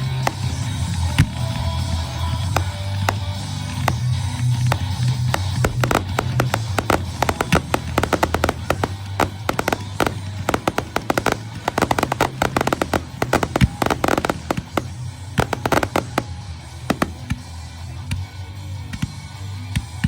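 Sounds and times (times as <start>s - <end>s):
fireworks bursting: 0.0s - 18.2s
rock music: 0.0s - 20.0s.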